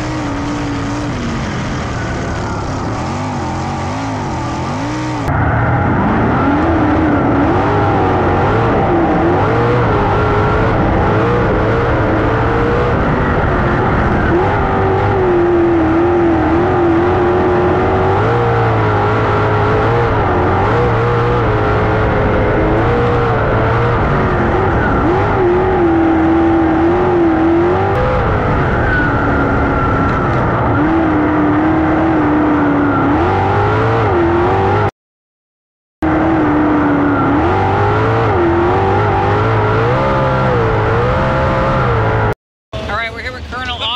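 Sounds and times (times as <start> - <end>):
race car engine revving: 0.0 - 34.9, 36.0 - 43.9.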